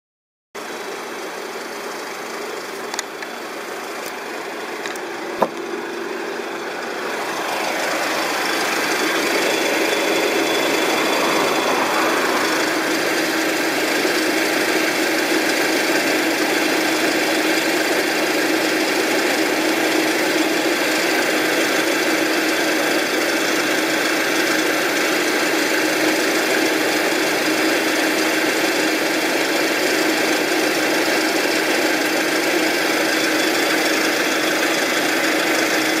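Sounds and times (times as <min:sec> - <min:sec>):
engine running with rattling clatter: 0:00.6 - 0:36.0.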